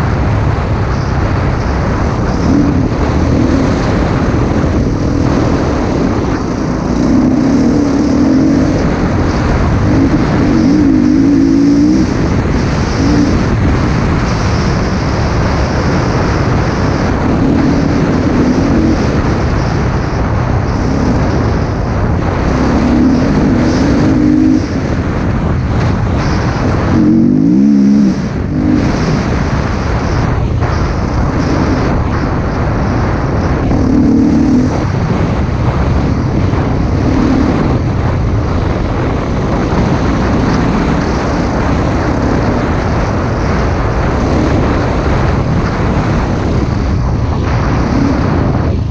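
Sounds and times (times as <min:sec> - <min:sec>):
motocross bike engine revving: 0:00.0 - 0:48.6
wind noise on microphone: 0:00.0 - 0:48.9.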